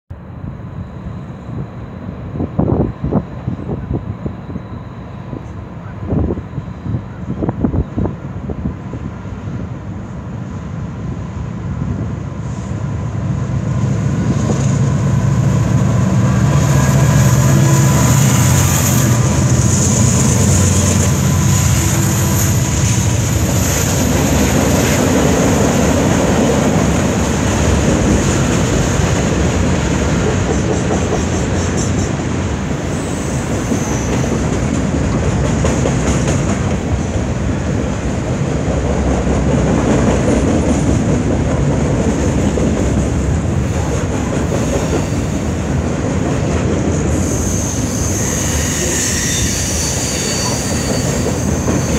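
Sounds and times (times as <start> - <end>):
diesel locomotive engine drone: 0.1 - 51.9
train wheels rumbling on rails: 1.4 - 51.9.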